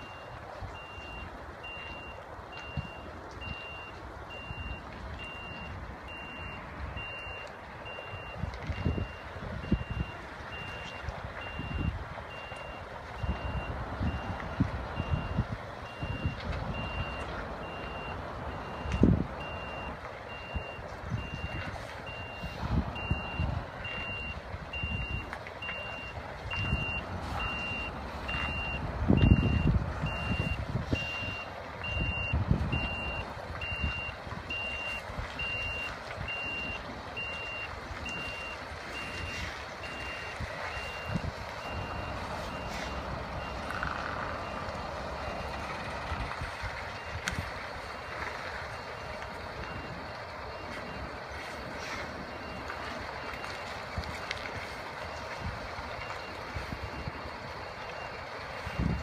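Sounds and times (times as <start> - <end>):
diesel truck engine rumbling: 0.0 - 59.0
vehicle warning beeper: 0.0 - 59.0.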